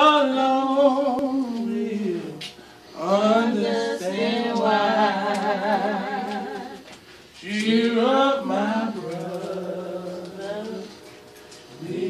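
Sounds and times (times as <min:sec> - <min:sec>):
person singing a hymn: 0:00.0 - 0:12.0.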